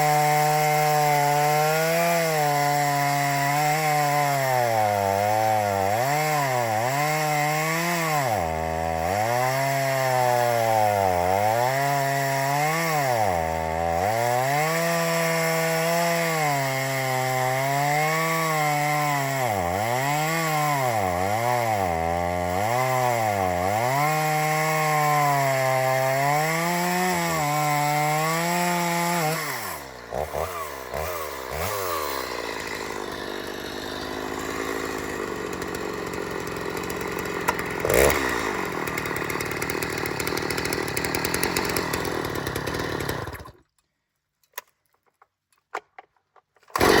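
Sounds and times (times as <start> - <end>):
chainsaw cutting log: 0.0 - 43.8, 45.7 - 47.0.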